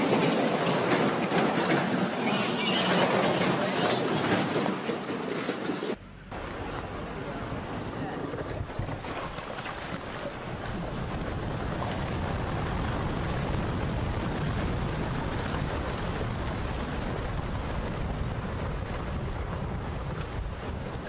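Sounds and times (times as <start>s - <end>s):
rockslide rumbling: 0.0s - 21.0s.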